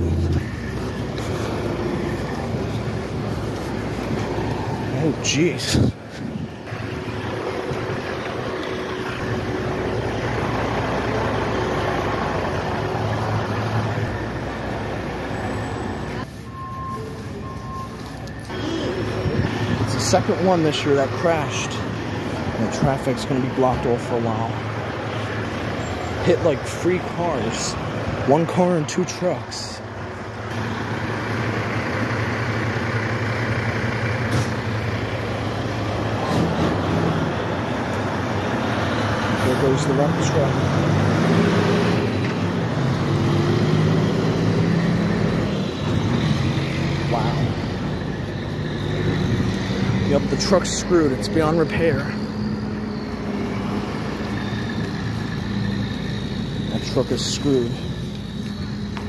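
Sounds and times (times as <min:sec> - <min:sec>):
truck engine idling: 0:00.0 - 0:41.2, 0:41.9 - 0:59.0.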